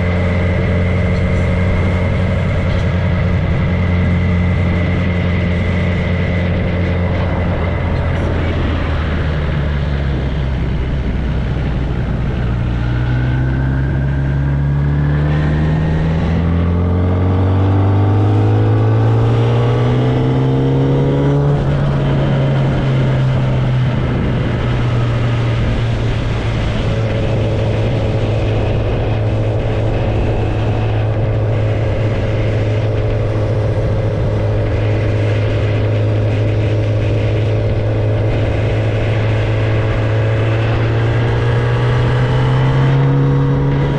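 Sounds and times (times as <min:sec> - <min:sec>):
motorcycle engine revving: 0:00.0 - 0:43.9
wind and road noise: 0:00.0 - 0:43.9.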